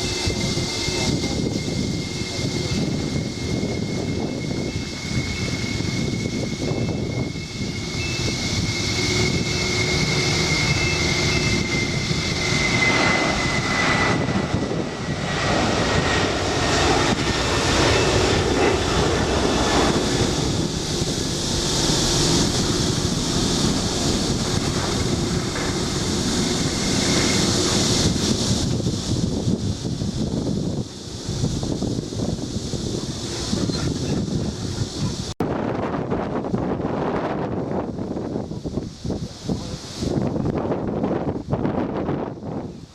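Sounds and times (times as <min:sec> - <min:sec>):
jet engines passing: 0:00.0 - 0:42.9.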